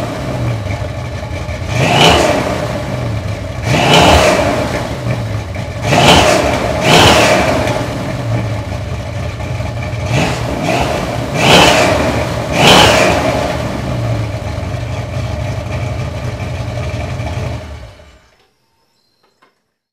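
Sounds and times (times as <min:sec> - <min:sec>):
car engine revving and idling: 0:00.0 - 0:18.2.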